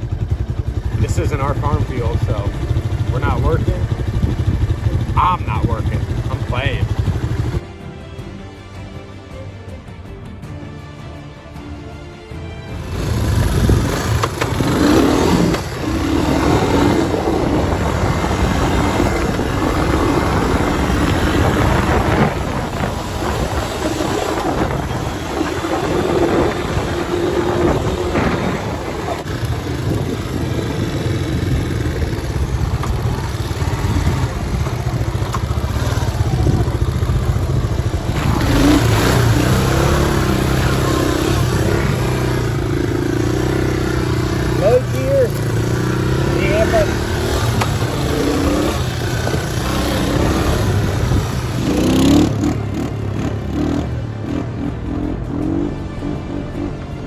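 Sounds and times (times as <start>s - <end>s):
motorbike engine revving: 0.0s - 7.6s, 12.8s - 57.0s.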